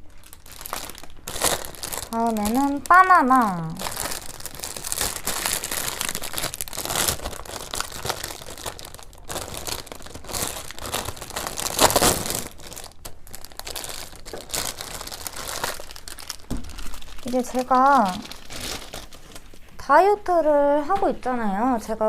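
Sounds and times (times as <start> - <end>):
plastic packaging crinkling: 0.0 - 19.8.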